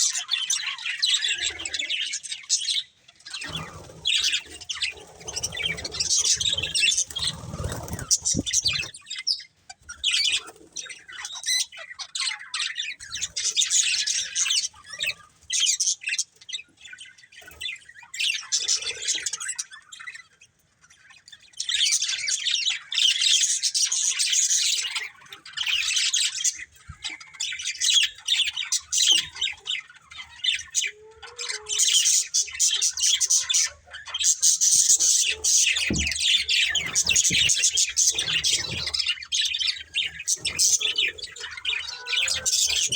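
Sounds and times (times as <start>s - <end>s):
budgerigars chattering and chirping: 0.0s - 42.9s.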